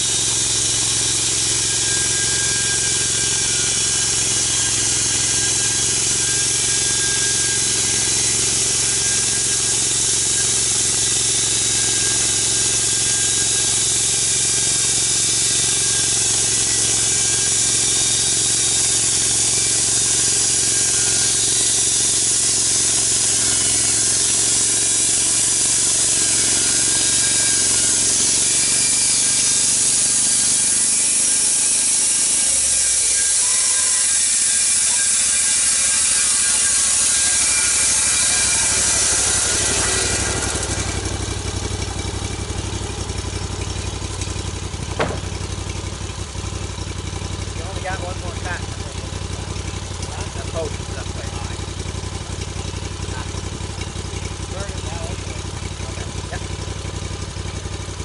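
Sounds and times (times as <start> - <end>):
saw cutting log hiss: 0.0 - 58.0
saw engine drone: 0.0 - 58.0.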